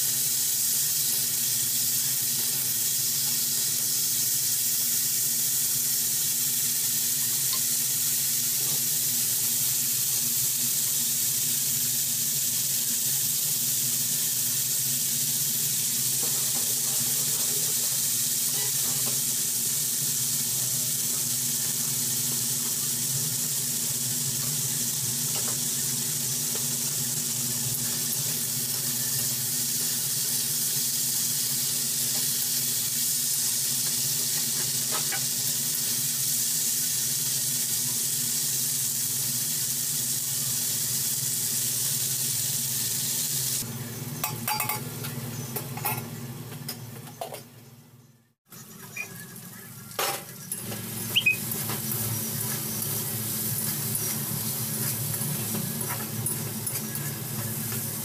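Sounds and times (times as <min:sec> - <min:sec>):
potato sticks sizzling in a pan: 0:00.0 - 0:46.2, 0:48.5 - 0:58.0.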